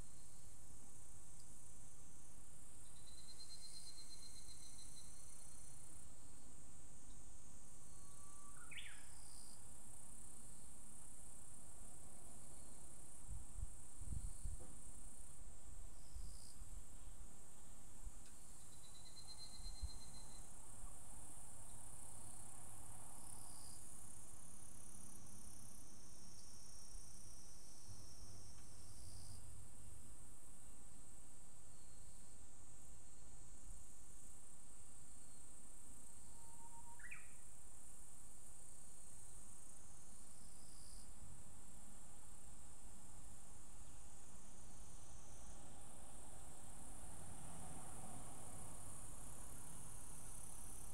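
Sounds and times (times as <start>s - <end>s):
cicadas chorus: 0.0s - 50.9s.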